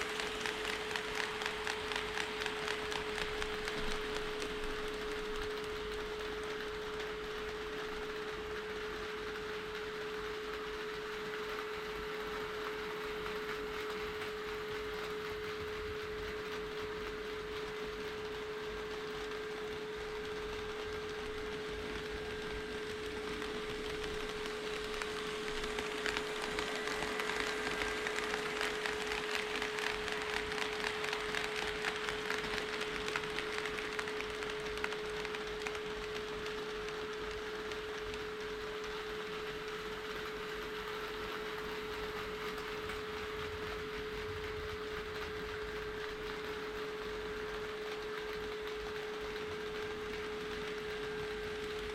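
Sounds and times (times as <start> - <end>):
model train wheels clicking: 0.0 - 51.9
steady high-pitched hum: 0.0 - 51.9.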